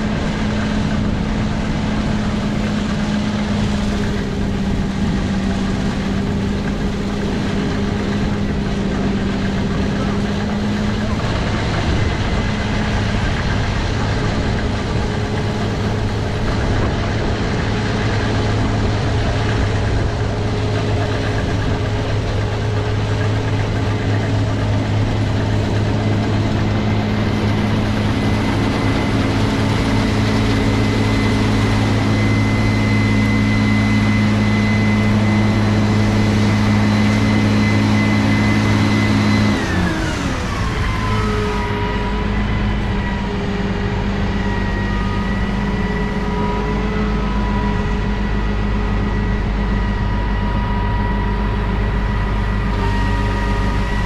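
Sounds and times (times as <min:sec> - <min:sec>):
diesel machinery engine drone: 0:00.0 - 0:54.0
high-pitched whine: 0:00.0 - 0:54.0.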